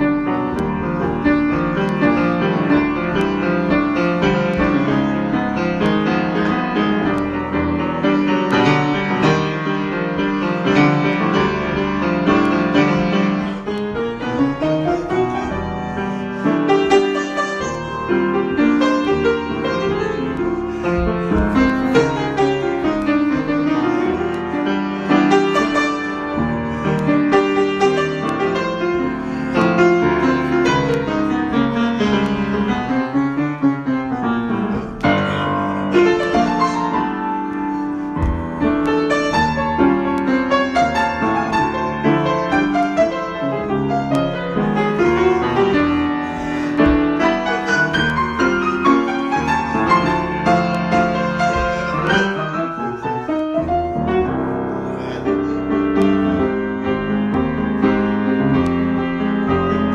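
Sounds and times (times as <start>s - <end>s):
solo piano improvisation: 0.0s - 59.9s.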